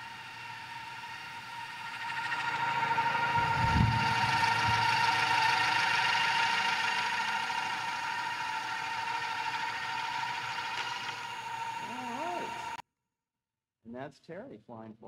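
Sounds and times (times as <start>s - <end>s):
helicopter rotors humming: 0.0s - 12.8s.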